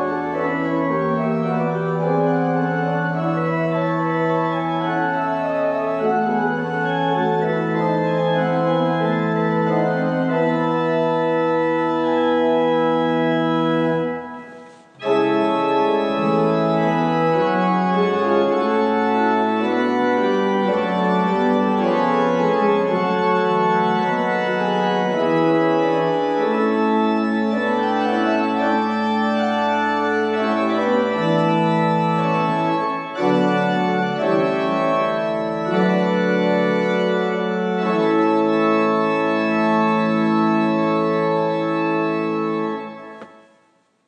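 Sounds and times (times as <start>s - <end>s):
organ chords: 0.0s - 43.7s.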